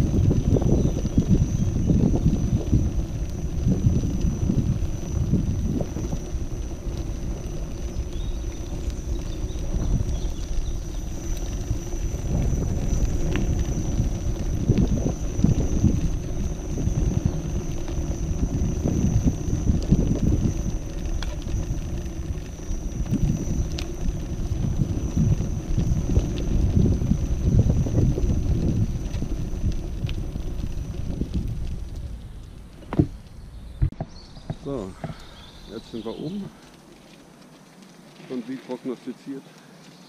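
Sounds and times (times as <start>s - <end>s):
tyre rumbling over cobblestones: 0.0s - 40.0s
faint ticks: 1.0s - 33.4s, 35.0s - 40.0s.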